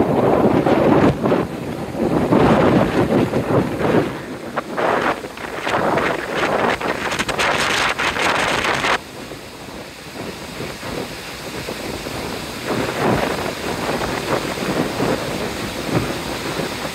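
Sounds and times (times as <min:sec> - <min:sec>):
waterfall and rapids rushing: 0:00.0 - 0:16.9
wind buffeting microphone: 0:00.0 - 0:16.9.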